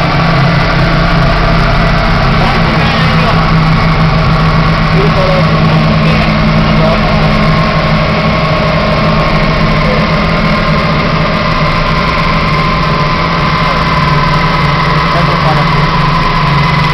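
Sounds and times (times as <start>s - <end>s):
car engine running steadily: 0.0s - 16.9s.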